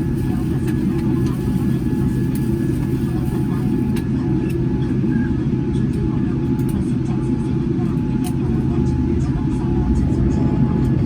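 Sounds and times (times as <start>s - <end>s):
aircraft engines rumbling: 0.0s - 11.0s.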